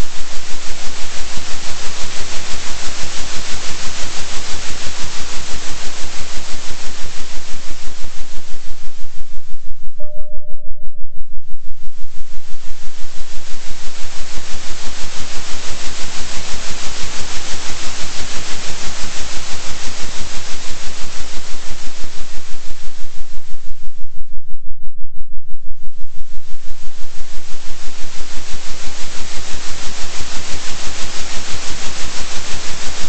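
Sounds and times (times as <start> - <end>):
oscillating hiss over low hum: 0.0 - 10.0, 11.5 - 24.2, 25.8 - 33.0.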